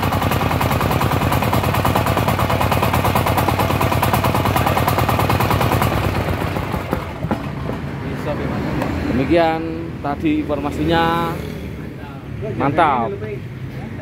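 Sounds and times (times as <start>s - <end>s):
diesel engine clattering: 0.0s - 11.3s.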